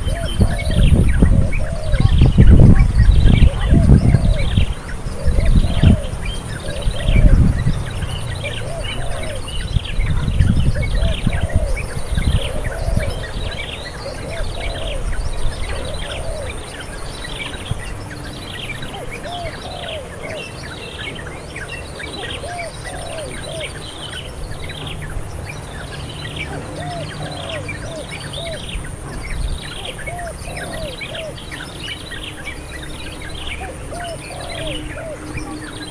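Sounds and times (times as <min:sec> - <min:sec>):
birds chirping: 0:00.0 - 0:35.9
low arched bird call: 0:00.0 - 0:35.9.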